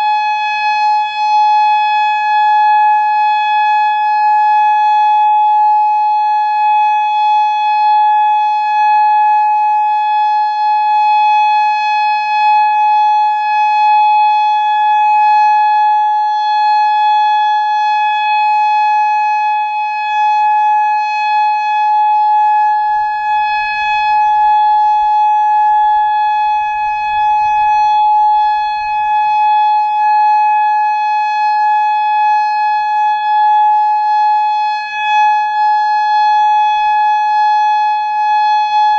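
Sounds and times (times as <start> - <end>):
electronic siren steady tone: 0.0 - 38.9.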